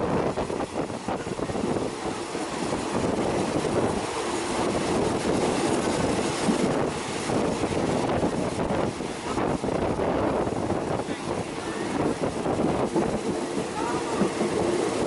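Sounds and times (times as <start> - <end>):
moving train rumble: 0.0 - 15.0
wind on microphone: 0.0 - 15.0.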